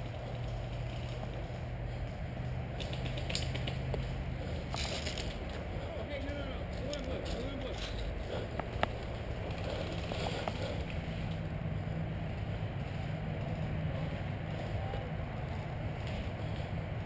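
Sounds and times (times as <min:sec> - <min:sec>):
brush rustling underfoot: 0:00.0 - 0:17.0.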